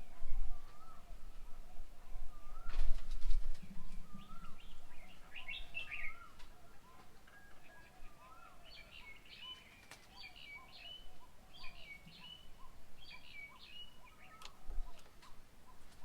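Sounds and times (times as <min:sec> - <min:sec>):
birds chirping: 0:00.0 - 0:16.0
lower bird call: 0:00.0 - 0:16.0.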